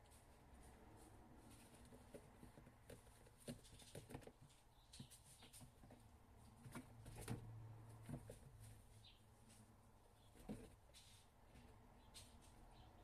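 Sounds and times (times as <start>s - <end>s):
kittens clicking and scuffling: 0.0s - 13.0s.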